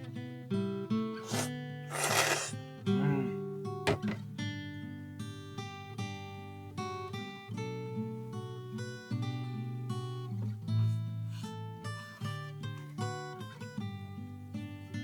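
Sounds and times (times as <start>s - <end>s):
acoustic guitar picking and strumming: 0.0s - 15.0s.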